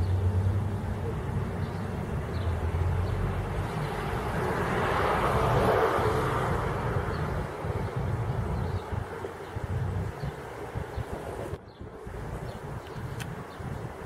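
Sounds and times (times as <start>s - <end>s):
distant engine passing: 0.0s - 11.6s.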